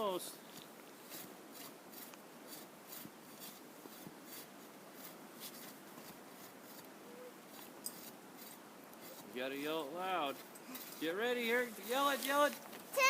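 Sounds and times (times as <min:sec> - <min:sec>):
hand saw cutting wood: 0:01.0 - 0:06.9, 0:07.5 - 0:09.4, 0:10.2 - 0:13.0.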